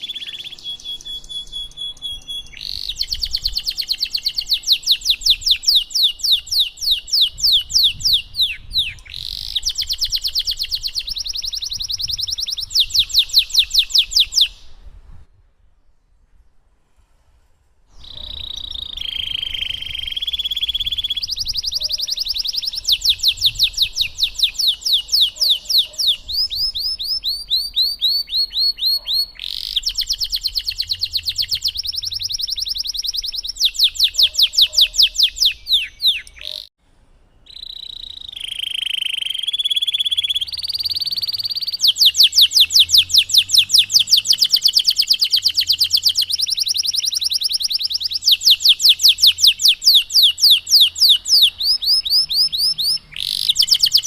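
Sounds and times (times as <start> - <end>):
canary singing trills: 0.0 - 14.8, 18.0 - 36.7, 37.4 - 54.0.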